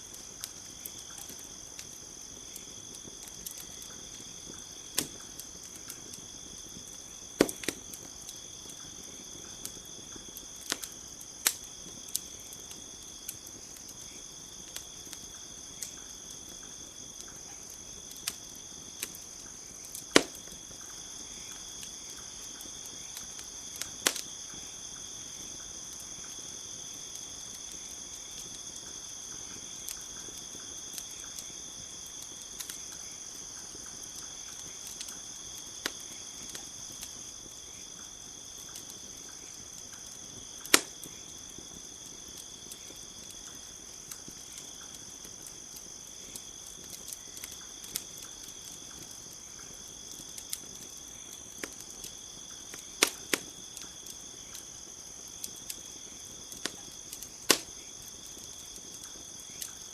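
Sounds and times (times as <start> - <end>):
campfire crackling and popping: 0.0 - 59.9
crickets chirring: 0.0 - 59.9.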